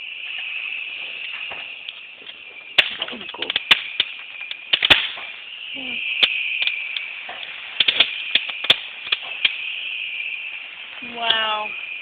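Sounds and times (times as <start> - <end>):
fireworks popping and crackling: 0.0 - 12.0
steady hiss: 0.0 - 12.0.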